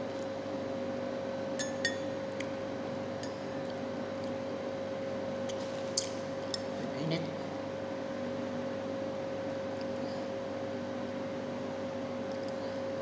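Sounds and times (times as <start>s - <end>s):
kitchen room hum: 0.0s - 13.0s.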